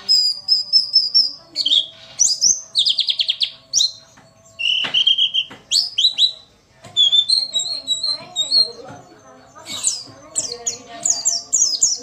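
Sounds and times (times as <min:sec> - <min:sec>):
bird chirping and whistling: 0:00.0 - 0:04.0, 0:04.6 - 0:09.0, 0:09.6 - 0:12.0.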